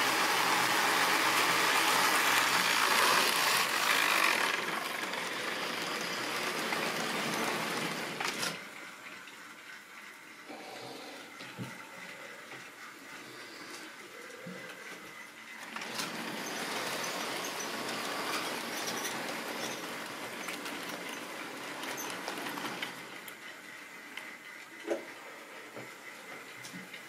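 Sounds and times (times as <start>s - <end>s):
model train wheels rattling: 0.0s - 10.4s, 11.7s - 27.0s.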